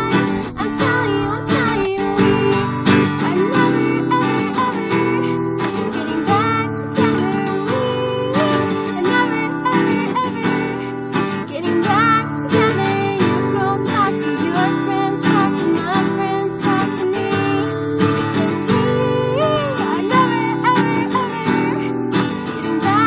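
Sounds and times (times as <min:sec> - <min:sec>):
acoustic guitar strumming: 0:00.0 - 0:23.0
woman singing: 0:00.0 - 0:23.0.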